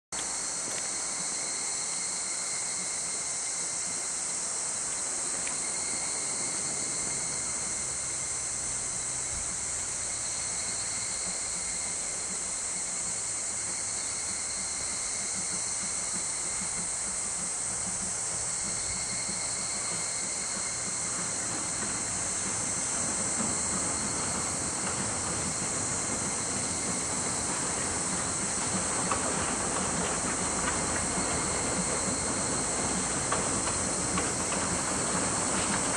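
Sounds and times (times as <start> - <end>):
insect chorus: 0.1 - 35.9
steam locomotive working: 0.1 - 35.9.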